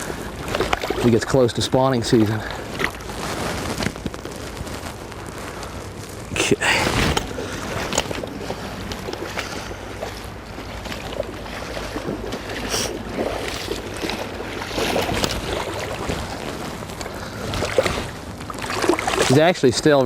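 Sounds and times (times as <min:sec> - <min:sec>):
river water rushing: 0:00.0 - 0:03.3, 0:06.4 - 0:19.5
small water splashes: 0:00.0 - 0:20.0.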